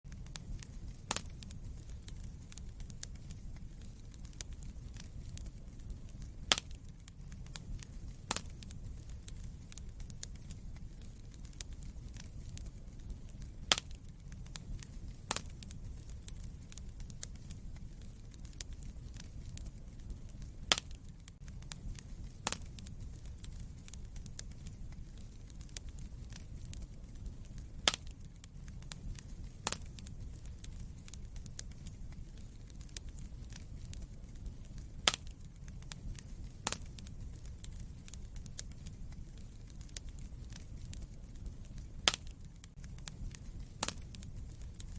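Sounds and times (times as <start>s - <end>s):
fire crackling: 0.0s - 44.9s
sharp fire pops: 0.1s - 44.9s.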